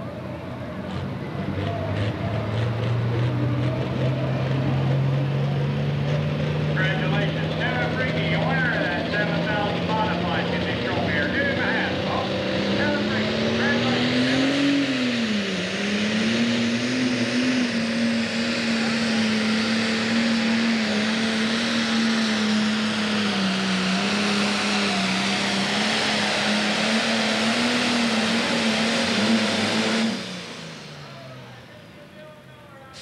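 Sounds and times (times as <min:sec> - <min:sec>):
diesel engine running flat out: 0:00.0 - 0:33.0.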